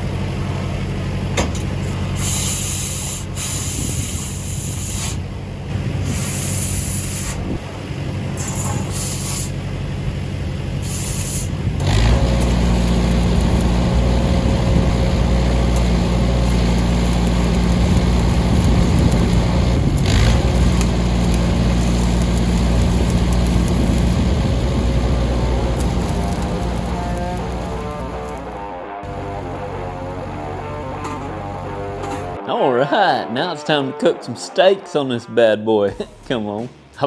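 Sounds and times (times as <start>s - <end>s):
engine running: 0.0s - 32.4s.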